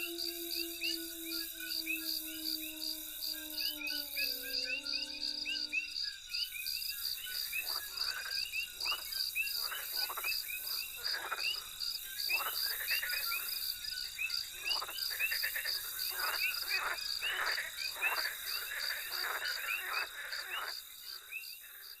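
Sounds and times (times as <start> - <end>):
high insect trill: 0.0 - 21.0
frogs croaking: 0.0 - 22.0.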